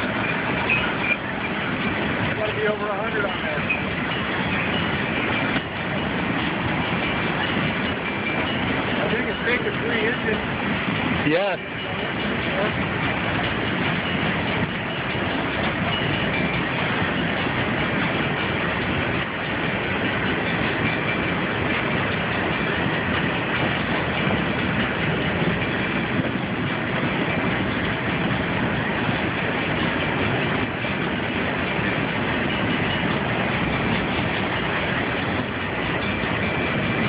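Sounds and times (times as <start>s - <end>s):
train wheels on rails: 0.0s - 37.0s.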